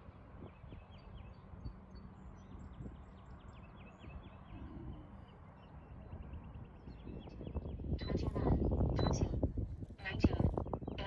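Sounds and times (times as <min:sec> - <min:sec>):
wind rumble on microphone: 0:00.0 - 0:11.0
small birds chirping: 0:00.1 - 0:09.4.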